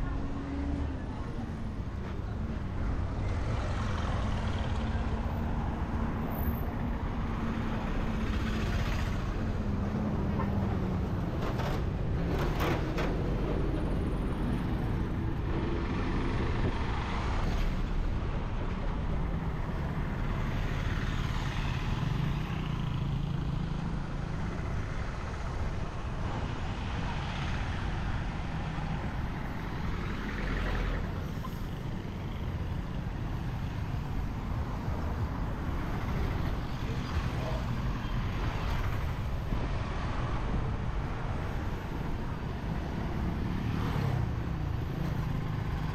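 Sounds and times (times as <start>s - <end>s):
engine and road rumble: 0.0s - 45.9s.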